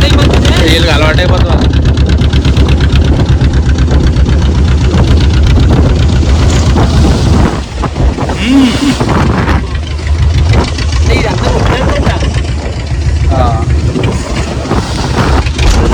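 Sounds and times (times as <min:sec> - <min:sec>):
boat engine pulsing: 0:00.0 - 0:15.9.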